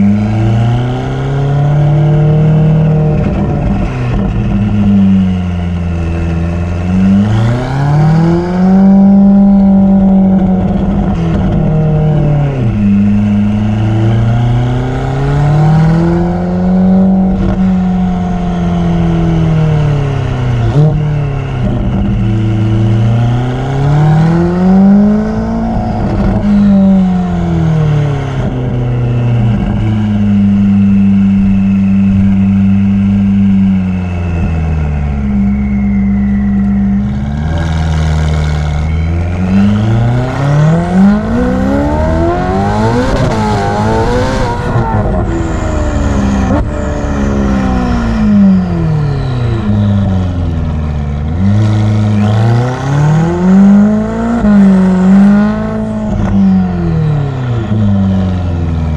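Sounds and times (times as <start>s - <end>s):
sports car engine revving: 0.0s - 58.9s.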